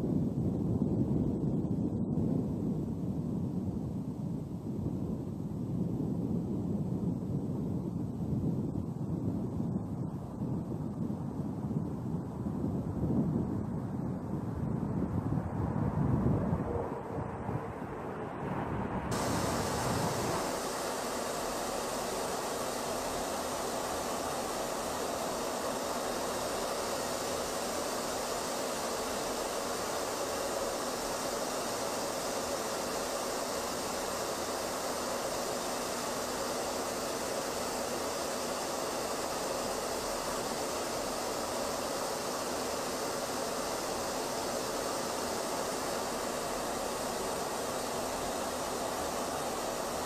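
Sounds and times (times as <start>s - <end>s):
aircraft cabin engine noise: 0.0s - 50.0s.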